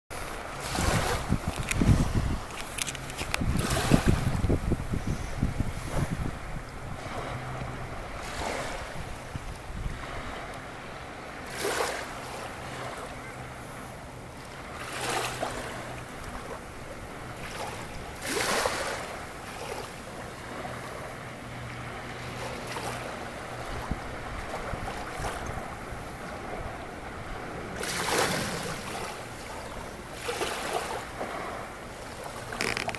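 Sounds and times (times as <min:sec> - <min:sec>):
wind: 0:00.0 - 0:32.9
small waves washing onto shore: 0:00.1 - 0:32.9.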